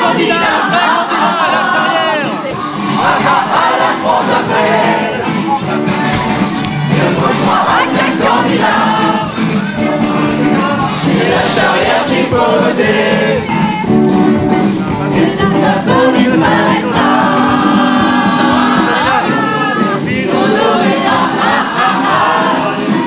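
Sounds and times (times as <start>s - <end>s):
backing music: 0.0s - 23.0s
voices singing together: 0.0s - 23.0s.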